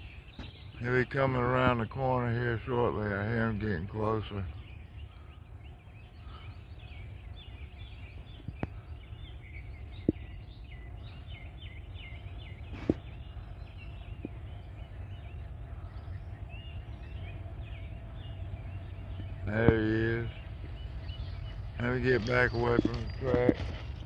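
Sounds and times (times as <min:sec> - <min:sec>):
low steady rumble: 0:00.0 - 0:24.0
small birds chirping: 0:00.0 - 0:24.0.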